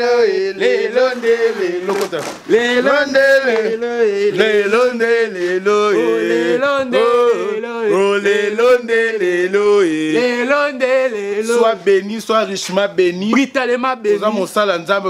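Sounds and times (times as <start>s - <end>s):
men chanting unaccompanied: 0.0s - 14.8s.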